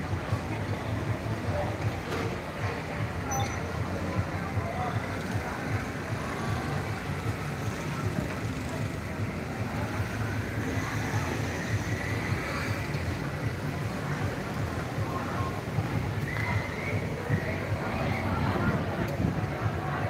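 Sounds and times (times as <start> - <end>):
motorbike traffic rumble: 0.0 - 20.0.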